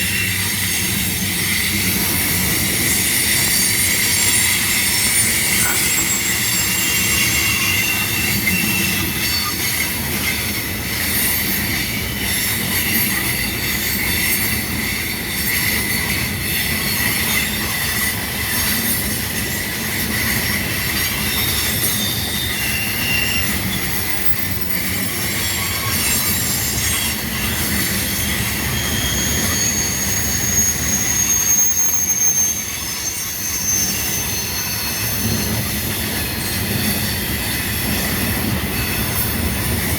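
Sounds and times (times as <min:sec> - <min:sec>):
freight train rumble: 0:00.0 - 0:39.9
train wheels squealing on rail: 0:00.0 - 0:39.9.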